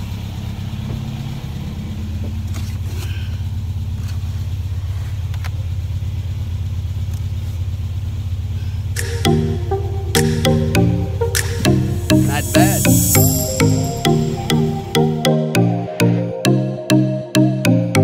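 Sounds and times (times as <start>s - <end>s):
vehicle engine idling: 0.0s - 15.4s.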